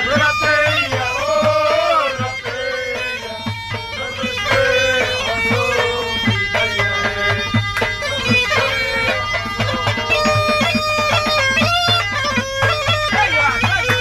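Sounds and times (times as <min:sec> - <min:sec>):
bagpipe playing reedy melody: 0:00.0 - 0:14.0
steady percussion beat: 0:00.0 - 0:14.0.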